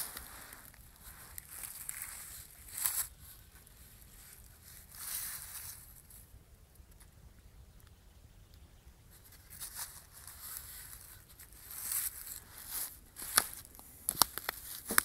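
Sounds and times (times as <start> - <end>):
dry leaves rustling: 0.0 - 6.3, 9.1 - 15.0.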